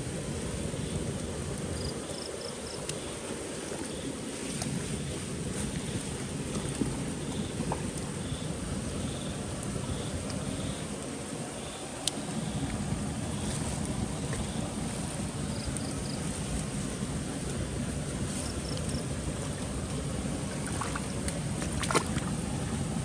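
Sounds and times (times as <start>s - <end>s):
steady rain falling: 0.0s - 21.6s.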